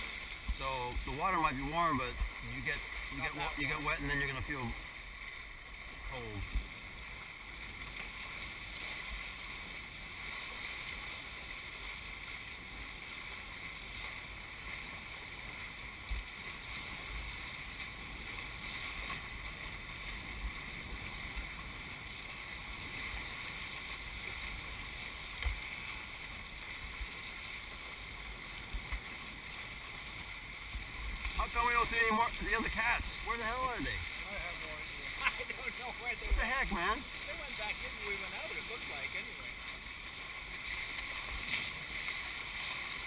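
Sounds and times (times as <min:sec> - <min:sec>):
water rushing past hulls: 0:00.0 - 0:43.0.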